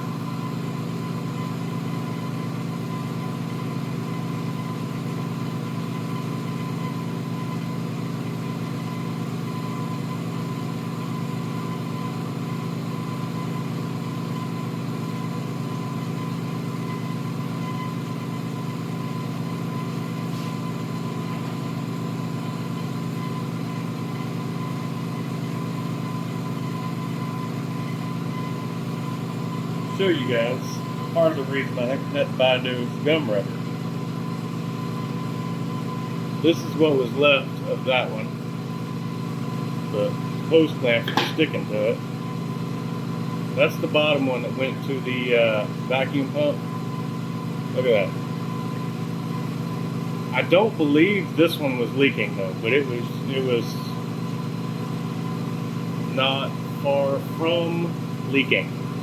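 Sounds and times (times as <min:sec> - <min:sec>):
vacuum pump humming: 0:00.0 - 0:59.0.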